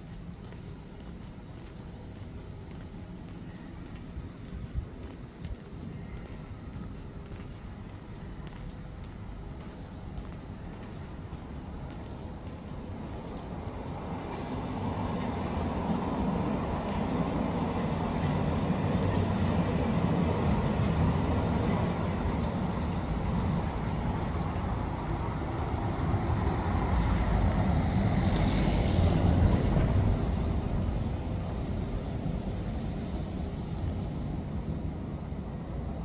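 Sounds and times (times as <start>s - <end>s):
city traffic rumble: 0.0s - 36.0s.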